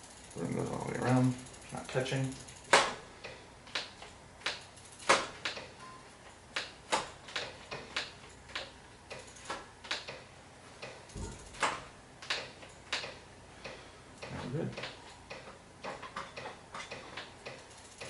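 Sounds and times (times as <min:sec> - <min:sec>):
spinning bicycle wheel ticking: 0:00.0 - 0:18.0.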